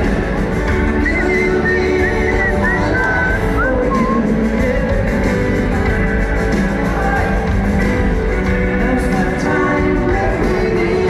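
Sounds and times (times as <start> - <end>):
acoustic guitars: 0.0 - 11.0
live rock band playing: 0.0 - 11.0
person singing: 0.0 - 11.0.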